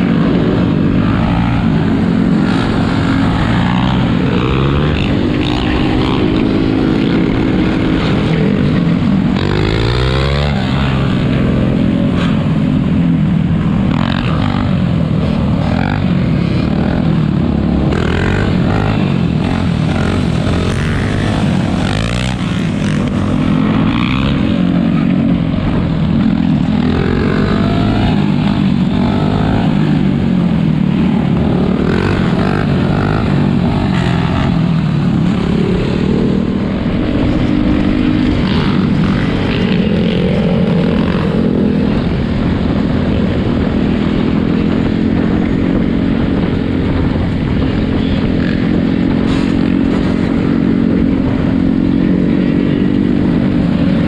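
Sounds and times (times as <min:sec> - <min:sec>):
atv engines revving: 0:00.0 - 0:54.0.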